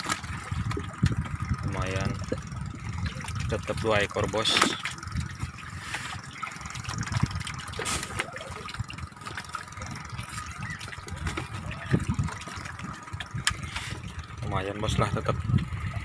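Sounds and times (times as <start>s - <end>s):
water splashing and lapping: 0.0s - 16.0s
wind buffeting microphone: 0.0s - 16.0s.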